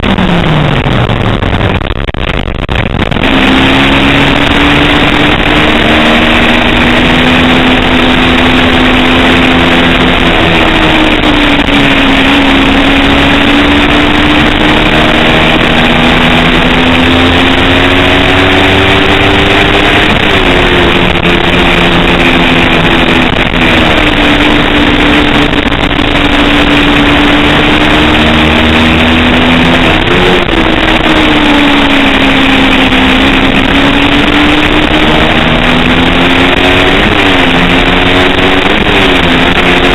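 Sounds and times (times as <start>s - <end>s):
race motorcycle engine revving: 0.0s - 39.9s
steady rushing noise: 0.0s - 39.9s.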